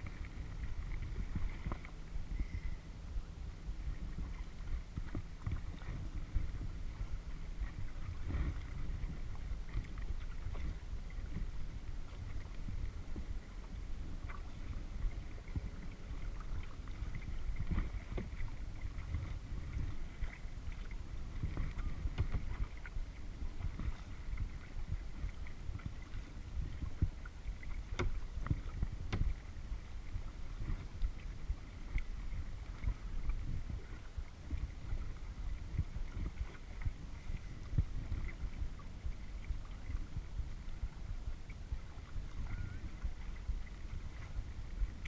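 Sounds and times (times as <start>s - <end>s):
paddle splashing water: 0.0s - 45.0s
steady low rumble: 0.0s - 45.0s.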